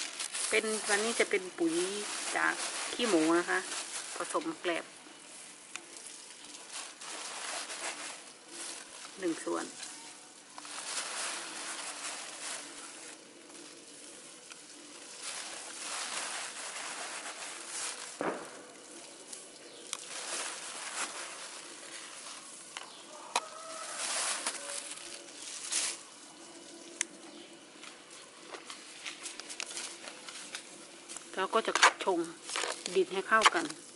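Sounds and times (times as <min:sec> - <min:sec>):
husks rustling and pattering: 0:00.0 - 0:31.4
plastic bag crinkling: 0:00.0 - 0:33.9.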